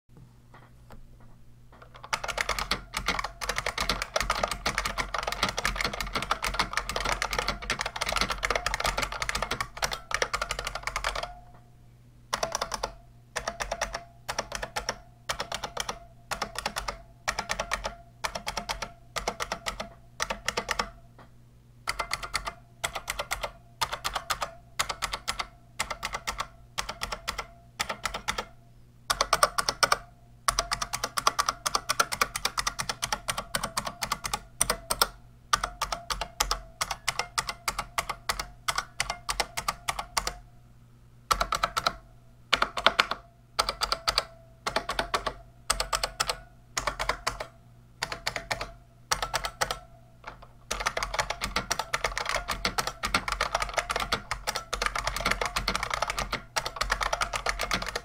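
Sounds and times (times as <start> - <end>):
keyboard typing clacks: 1.8 - 11.4, 12.3 - 21.0, 21.9 - 28.5, 29.1 - 40.4, 41.3 - 58.0.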